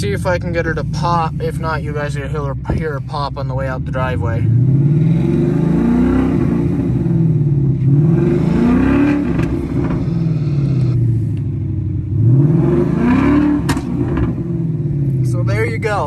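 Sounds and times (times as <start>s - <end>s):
car engine revving: 0.0s - 16.0s
exhaust popping: 0.0s - 16.0s.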